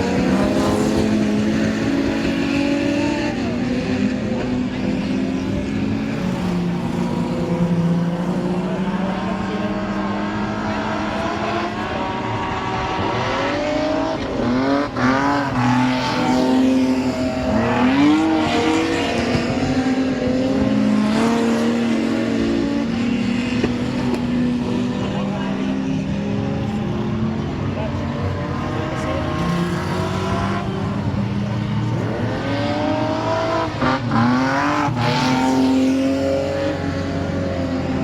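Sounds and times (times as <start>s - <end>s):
race car engines passing: 0.0s - 38.0s.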